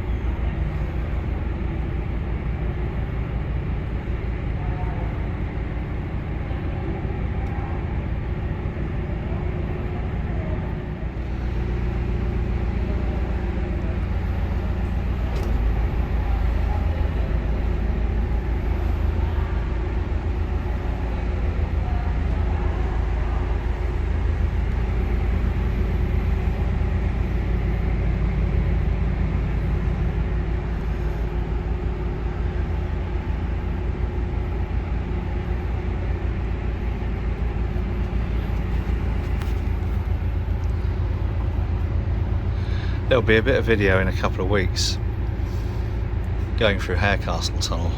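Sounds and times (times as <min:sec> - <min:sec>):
diesel boat engine throbbing: 0:00.0 - 0:47.9.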